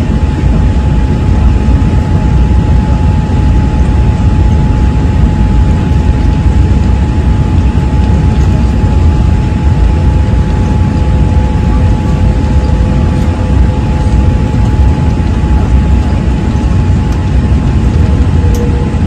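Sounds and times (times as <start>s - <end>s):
airliner engine rumble: 0.0s - 19.0s
faint steady tones: 0.4s - 19.0s.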